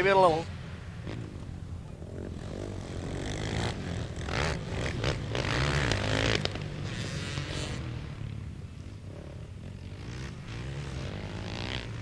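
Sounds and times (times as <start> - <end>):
quad engines revving: 1.0 - 12.0.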